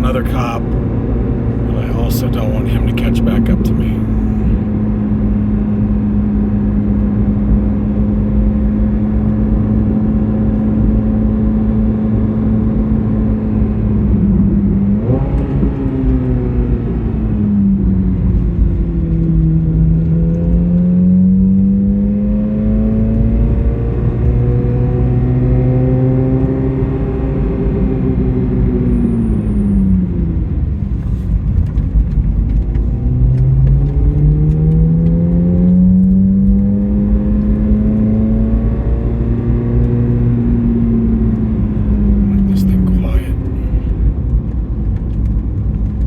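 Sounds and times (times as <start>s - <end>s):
car engine running: 0.0s - 46.0s.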